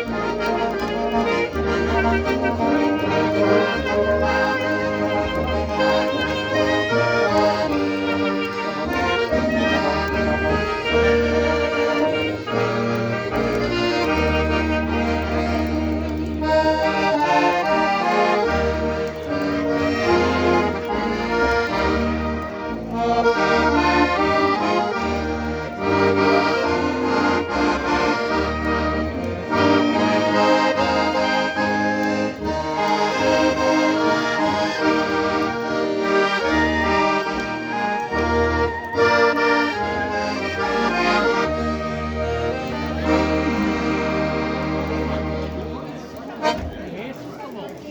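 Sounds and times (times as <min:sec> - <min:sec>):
accordion melody: 0:00.0 - 0:47.9.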